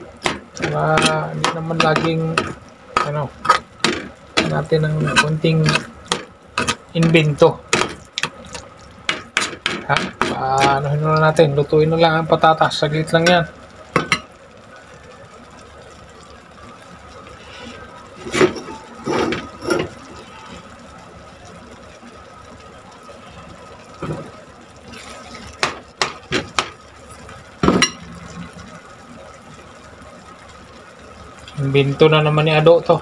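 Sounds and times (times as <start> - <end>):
food simmering in a frying pan: 0.0 - 33.0.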